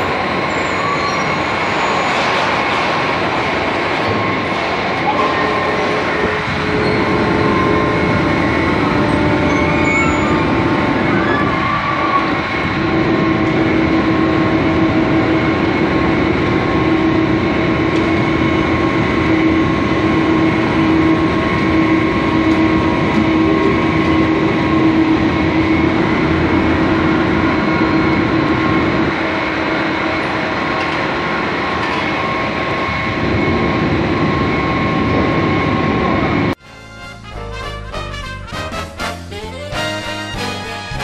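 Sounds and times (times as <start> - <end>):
factory machinery hum and hiss: 0.0 - 41.0.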